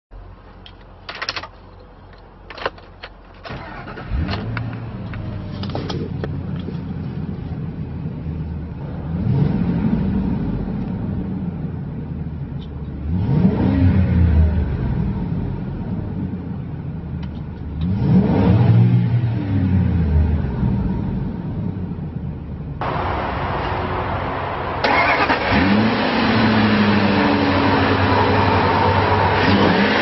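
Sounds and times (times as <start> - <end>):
truck engine idling and revving: 0.2 - 30.0.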